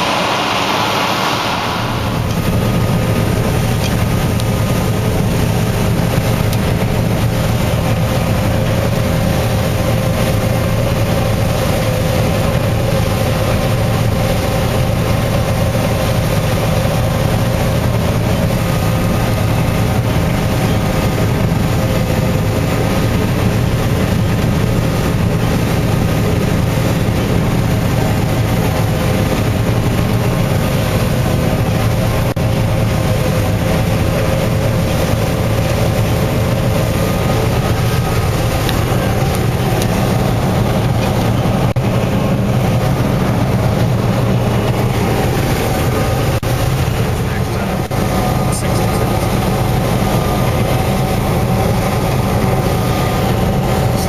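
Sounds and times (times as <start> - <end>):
combine harvester machinery drone: 0.0 - 54.0.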